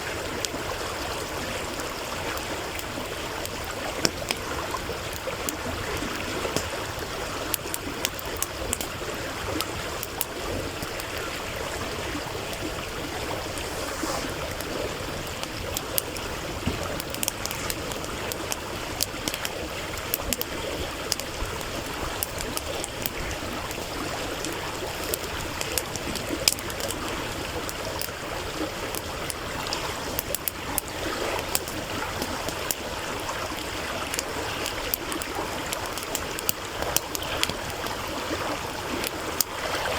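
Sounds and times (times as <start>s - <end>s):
campfire crackling and popping: 0.0s - 39.9s
stream water murmuring: 0.0s - 39.9s.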